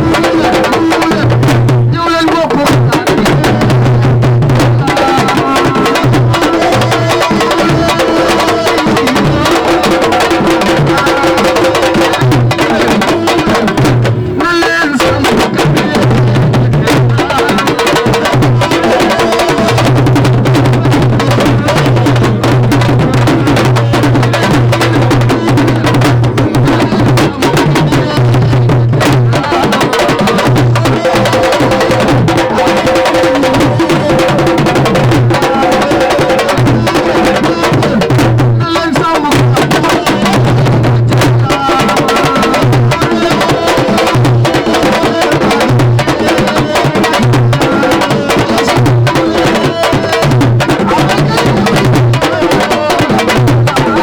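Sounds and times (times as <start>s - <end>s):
drum-heavy music: 0.0s - 54.0s
voices: 0.0s - 54.0s.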